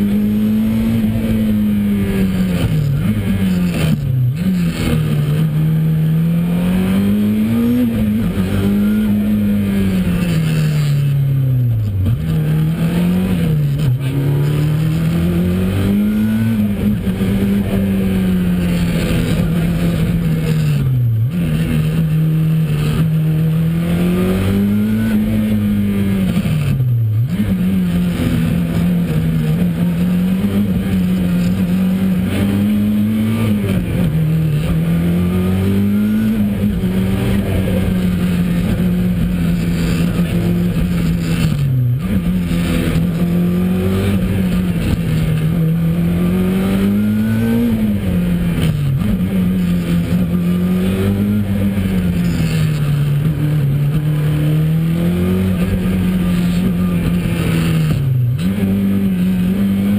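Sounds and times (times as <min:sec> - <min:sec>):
car engine at racing pace: 0:00.0 - 0:59.9.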